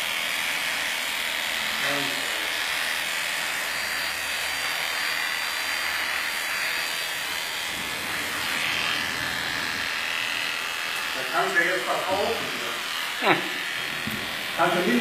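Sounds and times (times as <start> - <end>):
electric clipper buzzing: 0.0 - 15.0.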